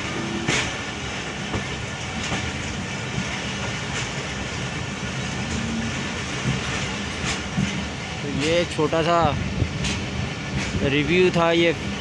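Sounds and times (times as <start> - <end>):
train carriage rumbling: 0.0 - 12.0
wheels clacking over rail joints: 0.0 - 12.0.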